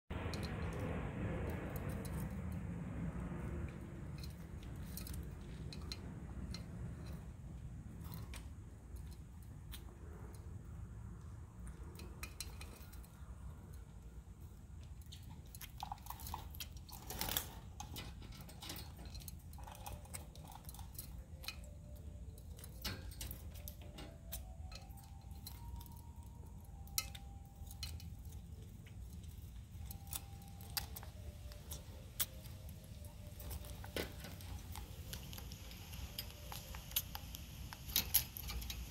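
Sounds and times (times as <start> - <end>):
steady low hum: 0.1 - 38.9.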